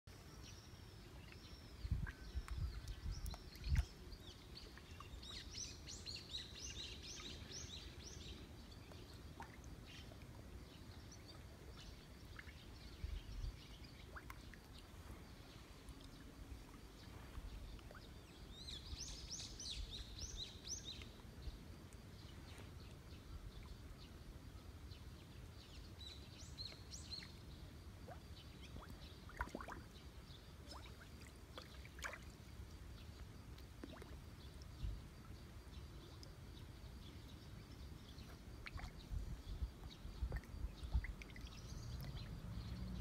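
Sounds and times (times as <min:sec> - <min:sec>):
low steady background: 0:00.0 - 0:43.0
songbirds chirping: 0:00.0 - 0:43.0.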